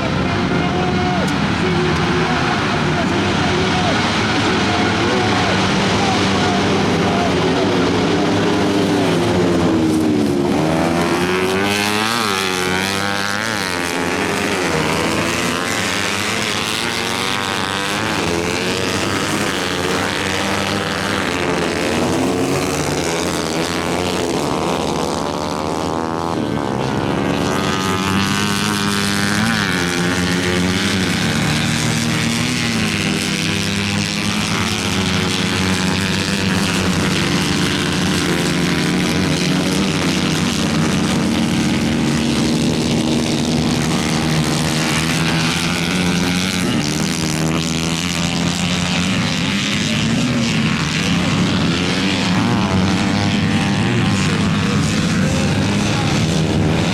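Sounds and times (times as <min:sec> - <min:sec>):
racing engines accelerating: 0:00.0 - 0:56.9.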